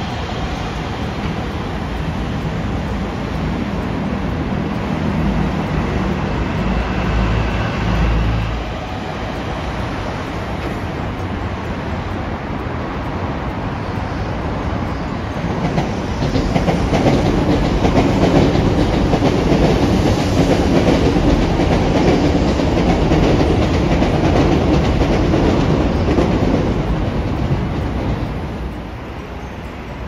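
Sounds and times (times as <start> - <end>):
clicking over rail joints: 0.0 - 30.0
train wheels rumbling on rails: 0.0 - 30.0.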